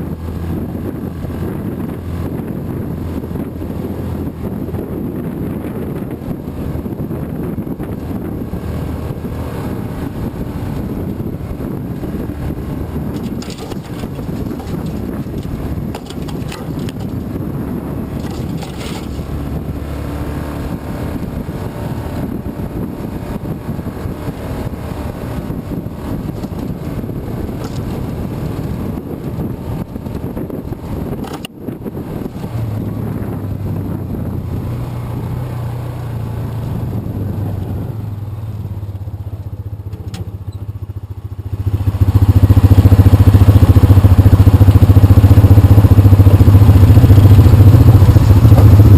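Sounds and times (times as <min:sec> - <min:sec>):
vehicle engine rumbling: 0:00.0 - 0:48.9
wind noise on microphone: 0:00.0 - 0:48.9.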